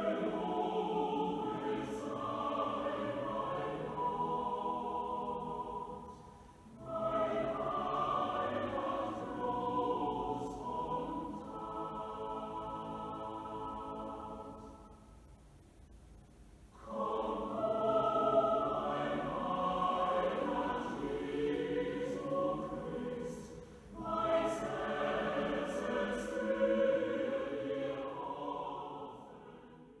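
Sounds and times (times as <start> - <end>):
voices singing a slow chant: 0.0 - 15.3, 16.8 - 30.0.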